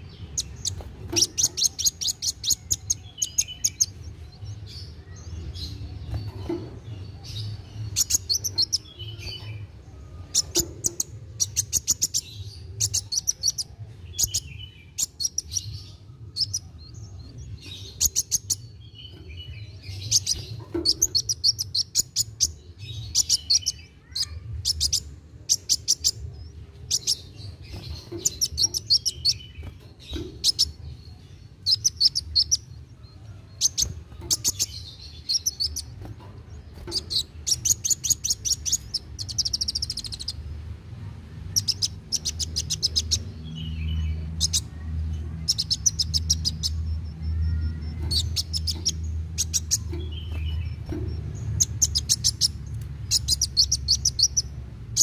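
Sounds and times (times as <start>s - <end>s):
sunbird singing: 0.0s - 40.4s, 41.5s - 55.0s.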